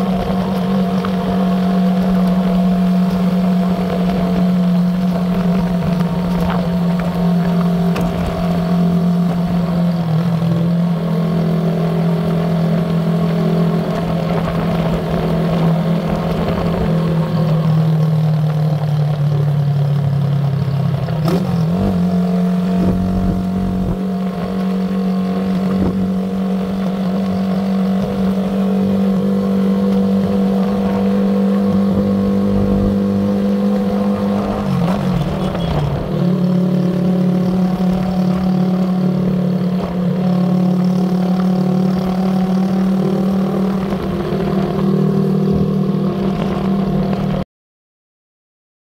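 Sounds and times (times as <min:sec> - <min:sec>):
vehicle engine running: 0:00.0 - 0:47.4.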